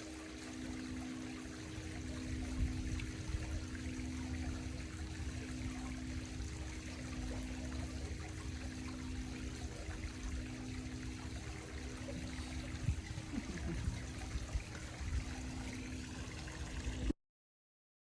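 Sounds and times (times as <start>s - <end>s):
low steady tones: 0.0s - 17.1s
trickling water: 0.0s - 17.2s.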